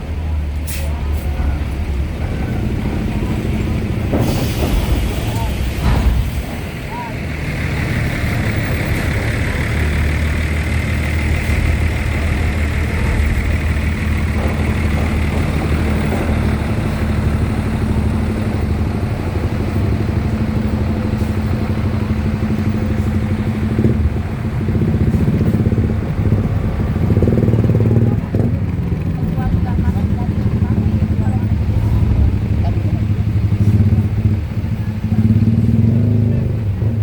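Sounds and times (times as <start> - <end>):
heavy vehicle engine droning: 0.0 - 37.0.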